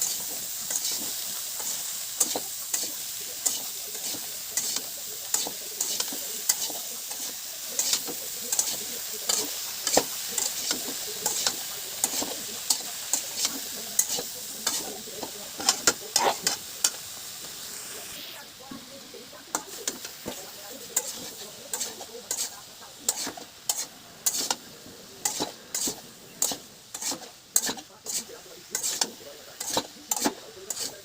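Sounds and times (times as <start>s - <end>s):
utensil clicking and scraping: 0.0s - 17.0s, 21.0s - 24.6s, 25.2s - 31.0s
food sizzling in a frying pan: 0.0s - 31.0s.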